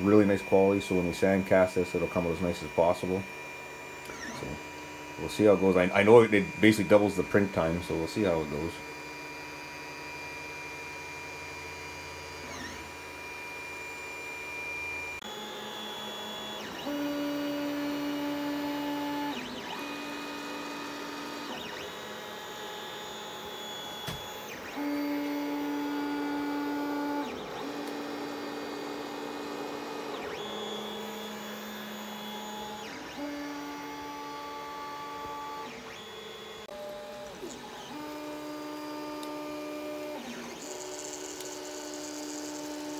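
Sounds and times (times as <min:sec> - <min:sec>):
stepper motors whining: 0:00.0 - 0:42.9.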